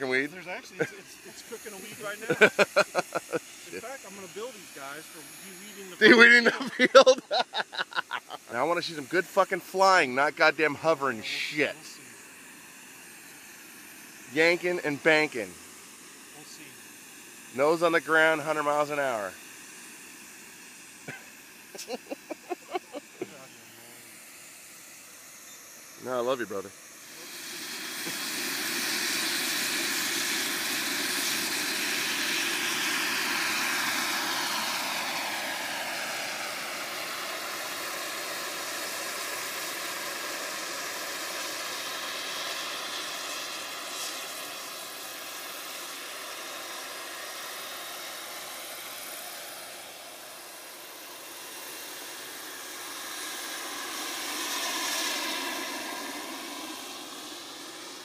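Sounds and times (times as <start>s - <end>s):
helicopter rotor noise: 0.0s - 58.0s
model helicopter turbine whine: 0.0s - 58.0s.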